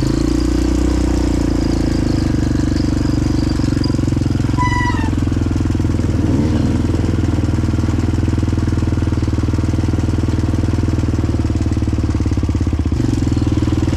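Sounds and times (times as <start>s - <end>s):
dirt bike engine idling: 0.0s - 13.9s.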